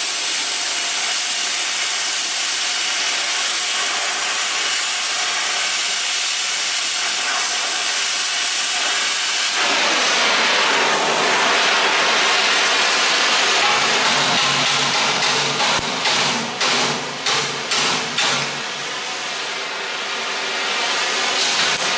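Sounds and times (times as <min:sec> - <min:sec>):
cutting torch hissing: 0:00.0 - 0:21.9.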